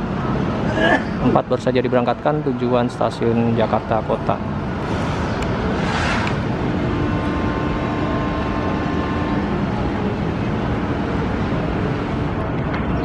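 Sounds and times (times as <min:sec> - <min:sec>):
outdoor rumble: 0:00.0 - 0:13.0
faint steady hum: 0:02.1 - 0:13.0.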